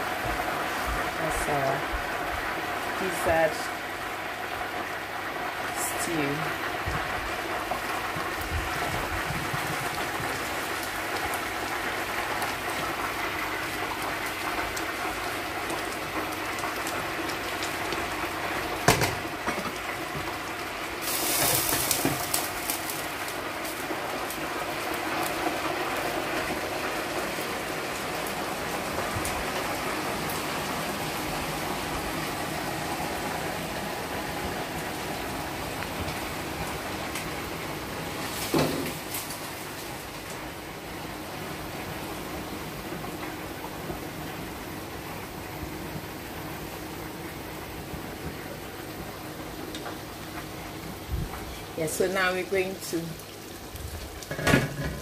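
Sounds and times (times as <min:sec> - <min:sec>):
stew boiling and spattering: 0:00.0 - 0:55.0.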